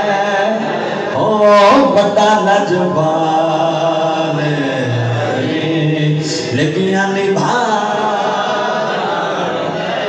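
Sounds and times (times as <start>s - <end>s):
man singing unaccompanied: 0.0s - 8.4s.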